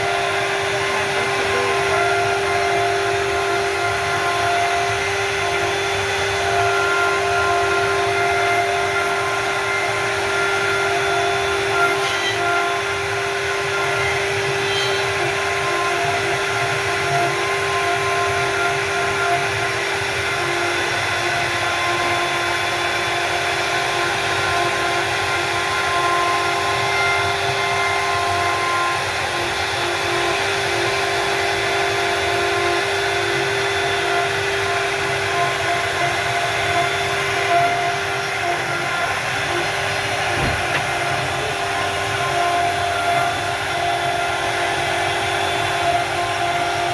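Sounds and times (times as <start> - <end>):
cnc router whine and hiss: 0.0 - 46.9.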